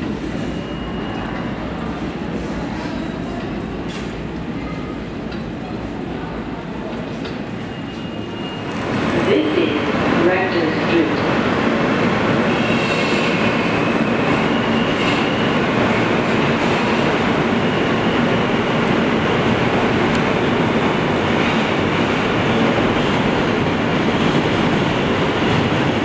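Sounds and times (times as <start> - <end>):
subway car wheels on rails: 0.0 - 26.0.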